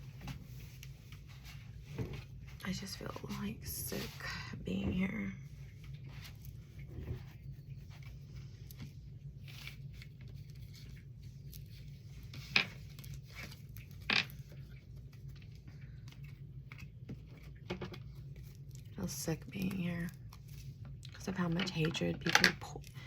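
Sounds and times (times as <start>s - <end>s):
faint rustling and handling: 0.0s - 23.0s
steady low hum: 0.0s - 23.0s.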